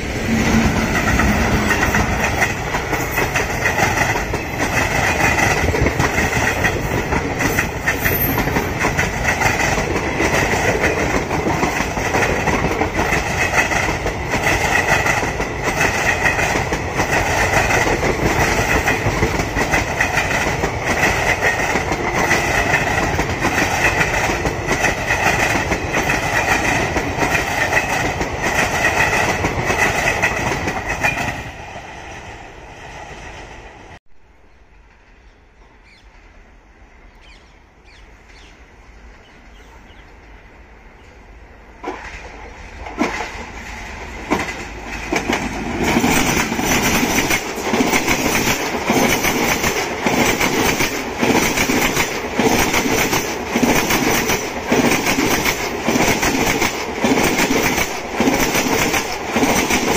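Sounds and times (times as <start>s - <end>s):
train rolling rumble: 0.0s - 59.9s
train wheels clattering over joints: 0.2s - 31.5s, 41.8s - 59.9s.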